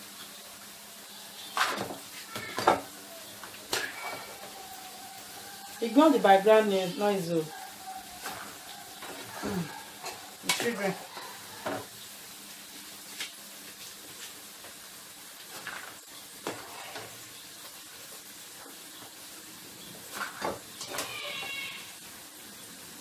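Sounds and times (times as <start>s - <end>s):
fries sizzling in hot oil: 0.0s - 23.0s.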